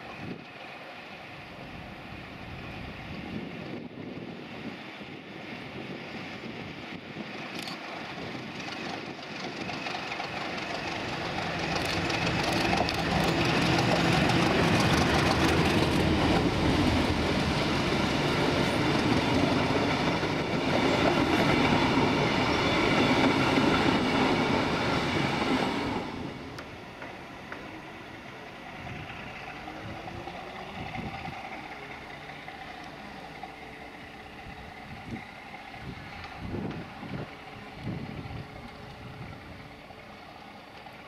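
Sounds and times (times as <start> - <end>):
diesel locomotive engine running: 0.0 - 41.0
train wheels on rails: 0.0 - 41.0.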